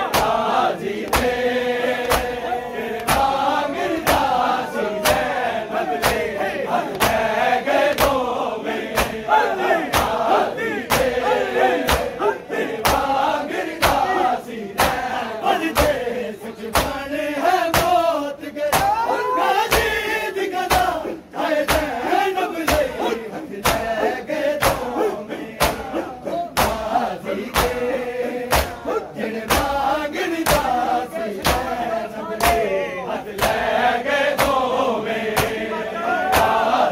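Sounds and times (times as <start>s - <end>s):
hands slapping chests in unison: 0.0s - 32.7s, 33.3s - 36.9s
men chanting: 0.0s - 36.9s.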